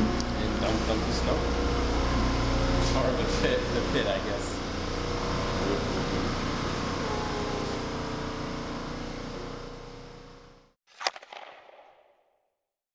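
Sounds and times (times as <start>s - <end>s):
steady mechanical hum: 0.0s - 10.8s.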